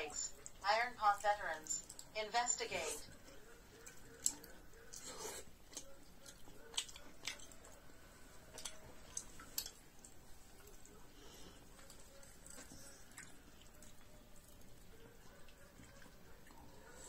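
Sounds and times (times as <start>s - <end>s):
faint chewing: 0.1s - 17.0s.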